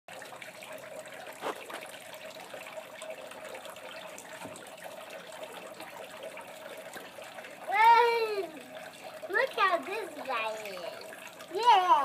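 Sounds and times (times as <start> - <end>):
water fountain trickling and splashing: 0.1 - 12.0.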